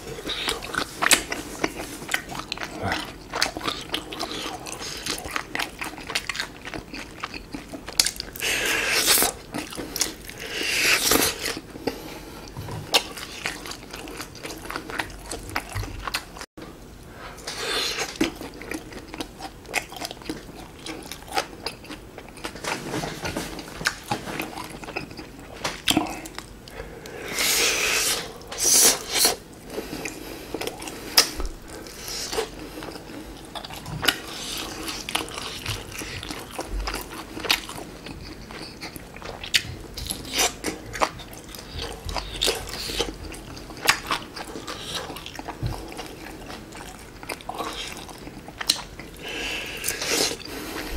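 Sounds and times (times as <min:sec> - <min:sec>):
chewing and biting: 0:00.0 - 0:16.5, 0:17.5 - 0:26.8, 0:27.4 - 0:50.9.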